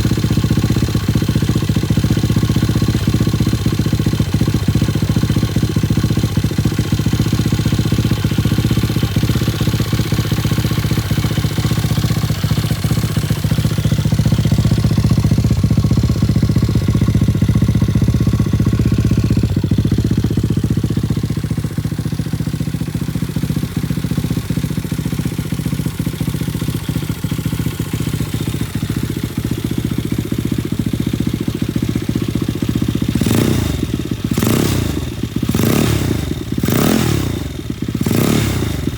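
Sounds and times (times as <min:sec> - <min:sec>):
small motorcycle engine idling: 0:00.0 - 0:38.9.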